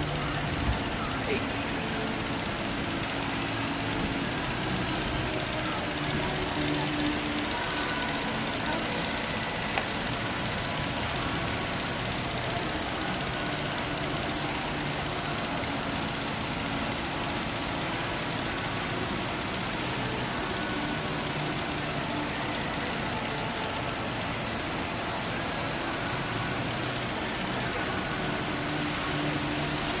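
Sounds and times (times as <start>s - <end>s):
rain: 0.0s - 30.0s
wind: 0.0s - 30.0s.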